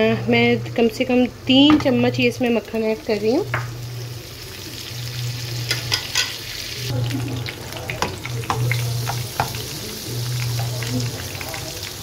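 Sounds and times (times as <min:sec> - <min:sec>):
butter sizzling in frying pan: 0:02.3 - 0:12.0.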